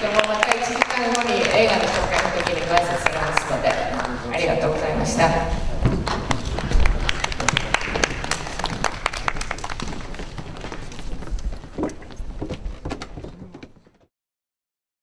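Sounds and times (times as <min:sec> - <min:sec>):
low room murmur: 0:00.0 - 0:14.0.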